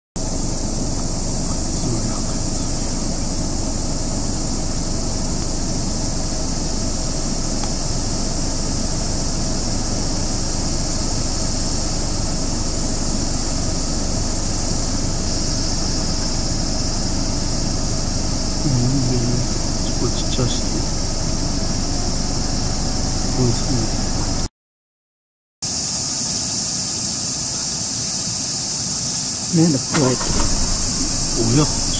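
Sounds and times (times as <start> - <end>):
high hiss: 0.2 - 24.5, 25.6 - 31.9
low constant rumble: 0.2 - 24.5, 29.8 - 31.9.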